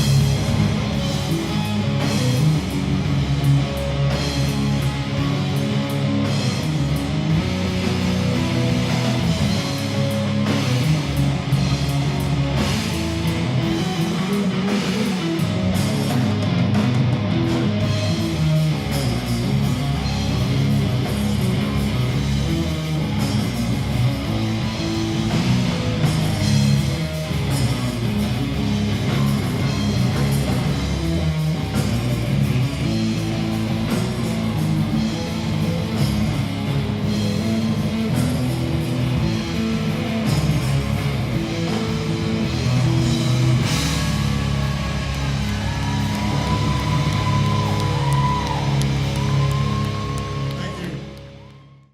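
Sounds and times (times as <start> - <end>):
drum kit: 0.0 - 51.8
bass guitar: 0.0 - 51.9
electric guitar: 0.0 - 51.9.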